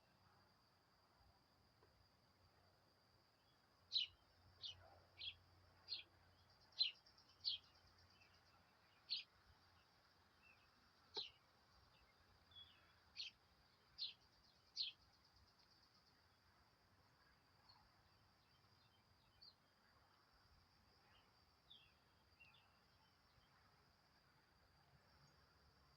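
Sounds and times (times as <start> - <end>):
songbird chirping: 3.3 - 25.9.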